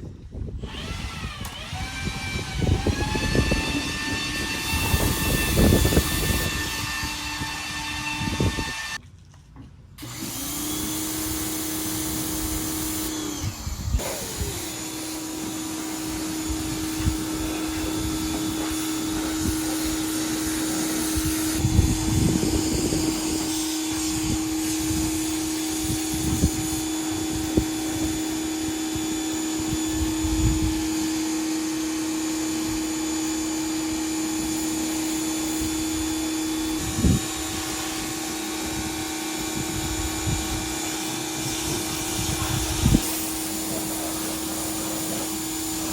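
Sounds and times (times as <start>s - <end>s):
small electric motor humming: 0.5s - 9.0s, 10.0s - 45.9s.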